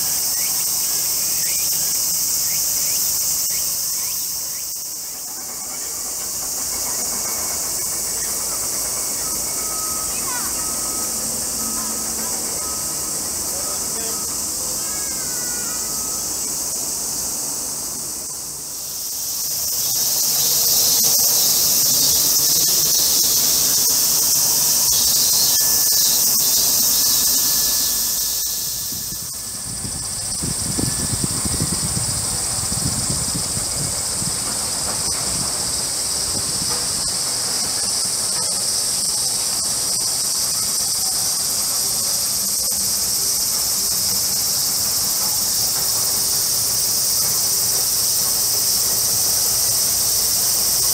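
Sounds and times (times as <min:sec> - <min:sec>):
cicadas buzzing: 0:00.0 - 0:50.9.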